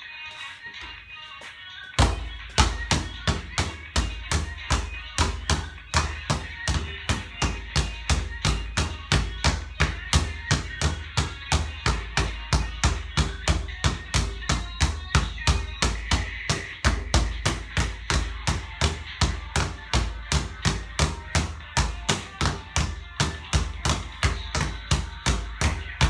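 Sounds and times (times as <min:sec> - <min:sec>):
background music with heavy drum beat: 0:02.0 - 0:26.0.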